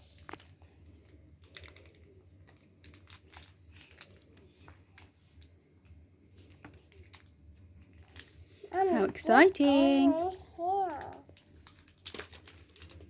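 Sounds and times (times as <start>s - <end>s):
packaging wrappers crinkling: 0.0s - 5.5s, 6.3s - 9.0s, 10.1s - 13.0s.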